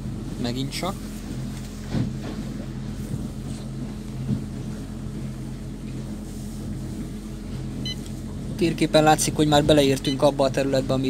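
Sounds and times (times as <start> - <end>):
boat motor humming: 0.0 - 11.0
wind and water noise: 0.0 - 11.0.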